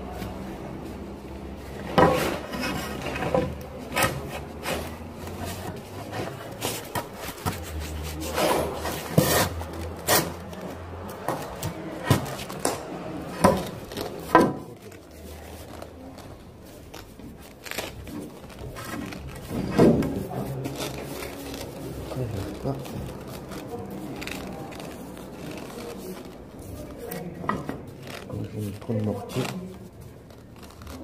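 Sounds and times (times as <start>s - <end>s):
rubbing on wooden board: 1.8s - 31.0s.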